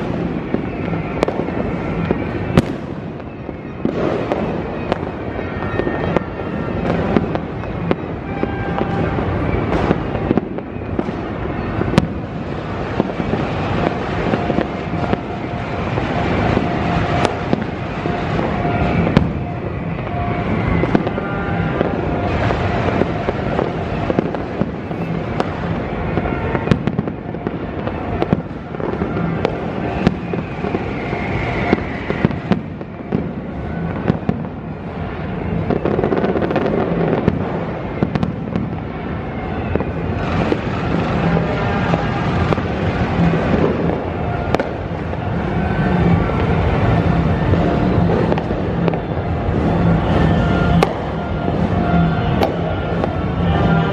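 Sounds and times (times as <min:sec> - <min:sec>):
fireworks and firecrackers: 0:00.0 - 0:53.9.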